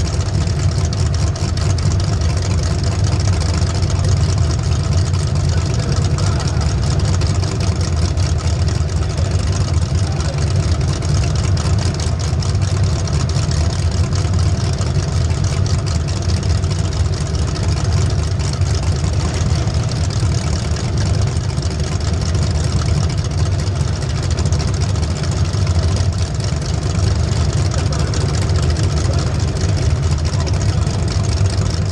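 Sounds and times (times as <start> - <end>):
race vehicle engine running: 0.0 - 31.9.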